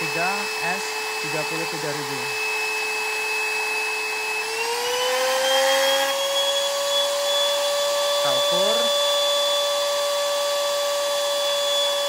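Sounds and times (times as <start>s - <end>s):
router motor whine: 0.0s - 12.0s.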